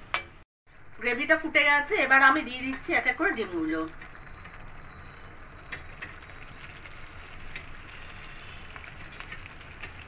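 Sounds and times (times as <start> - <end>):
gravy simmering with bubbling hiss: 0.7 - 10.0.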